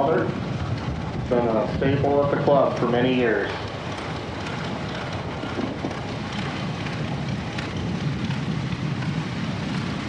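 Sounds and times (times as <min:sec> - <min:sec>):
tractor rumbling past: 0:00.0 - 0:10.0.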